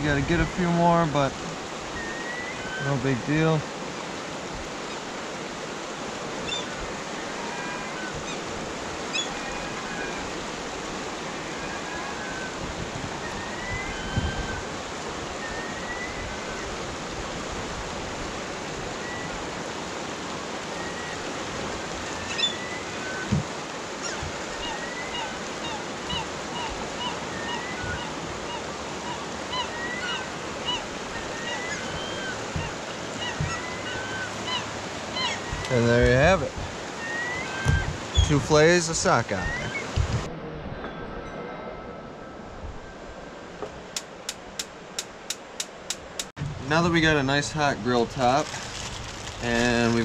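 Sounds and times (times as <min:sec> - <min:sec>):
fast river rushing: 0:00.0 - 0:40.3, 0:42.5 - 0:50.0.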